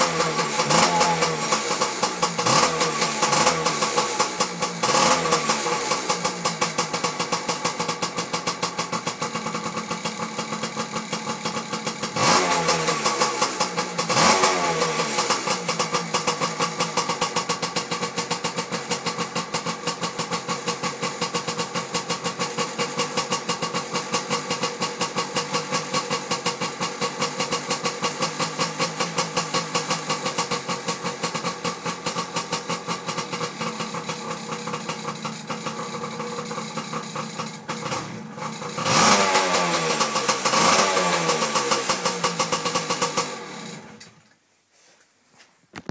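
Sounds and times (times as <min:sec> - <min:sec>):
two-stroke motorcycle engine idling: 0:00.0 - 0:44.3.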